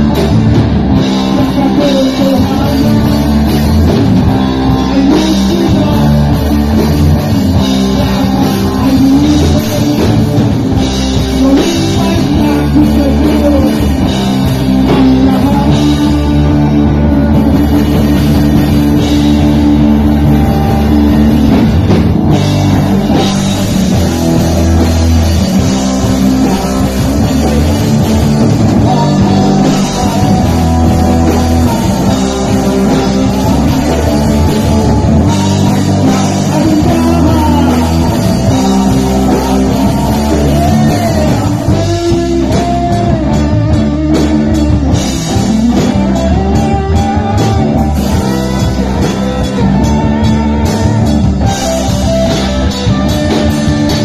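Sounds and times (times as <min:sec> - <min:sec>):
bass guitar: 0:00.0 - 0:54.0
drum kit: 0:00.0 - 0:54.0
electric guitars: 0:00.0 - 0:54.0
person singing: 0:00.0 - 0:54.0.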